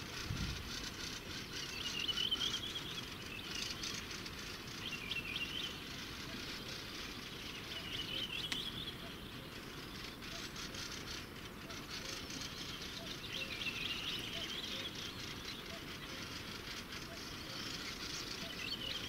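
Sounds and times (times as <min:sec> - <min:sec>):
songbird warbling: 0:00.0 - 0:19.0.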